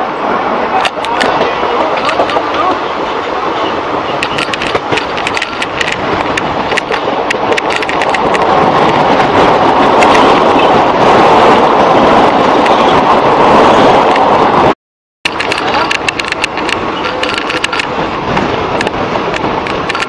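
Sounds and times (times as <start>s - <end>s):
steady train running rush: 0.0s - 20.0s
train wheels clattering over rails: 0.8s - 14.4s, 15.3s - 20.0s.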